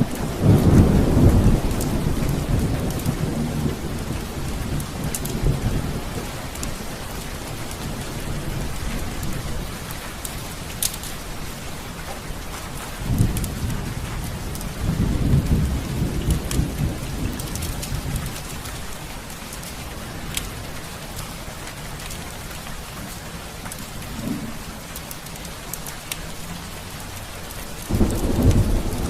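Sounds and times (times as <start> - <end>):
thunder rumbling: 0.0 - 22.6, 23.5 - 29.0
heavy rain: 0.0 - 29.0.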